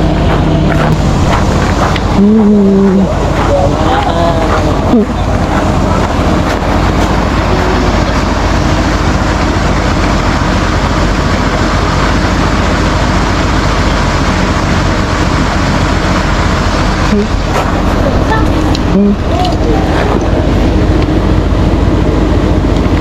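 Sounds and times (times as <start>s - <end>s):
machine motor hum and hiss: 0.0s - 21.4s.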